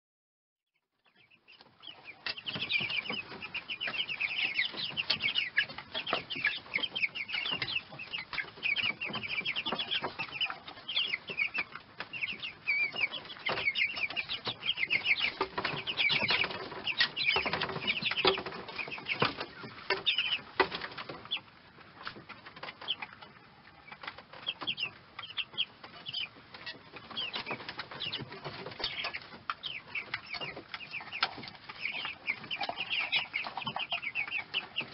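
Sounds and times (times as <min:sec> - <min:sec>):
chicks peeping: 0:01.0 - 0:34.9.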